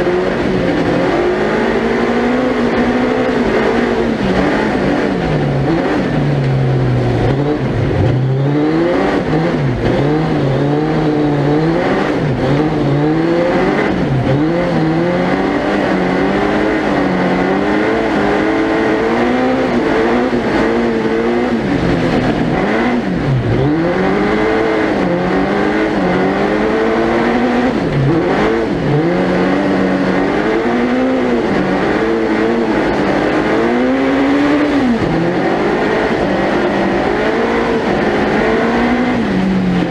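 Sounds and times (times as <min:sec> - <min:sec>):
engine revving up and down: 0:00.0 - 0:39.9.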